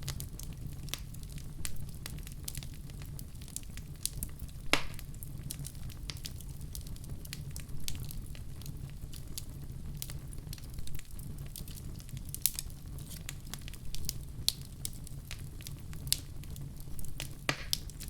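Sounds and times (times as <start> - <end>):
low rumble of fire: 0.0 - 18.0
wood fire crackling and popping: 0.0 - 18.0.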